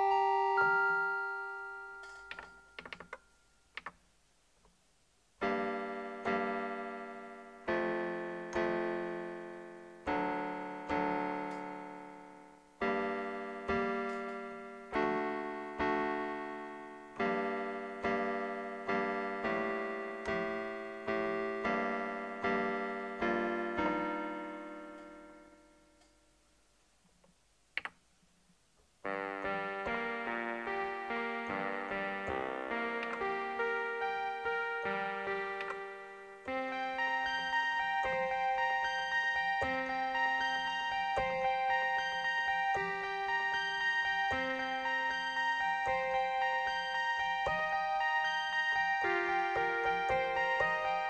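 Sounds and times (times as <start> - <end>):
keyboard playing chords: 0.0 - 3.5, 5.4 - 26.4, 29.0 - 51.0.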